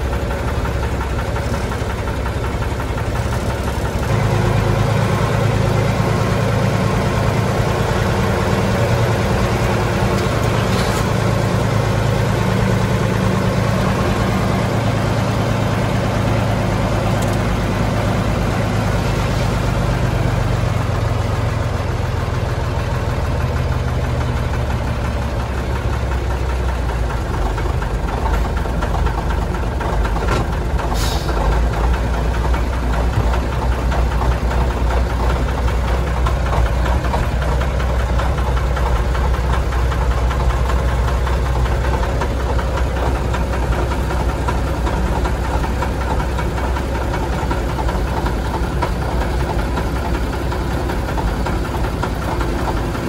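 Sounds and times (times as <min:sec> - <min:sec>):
truck diesel engine running: 0:00.0 - 0:53.0.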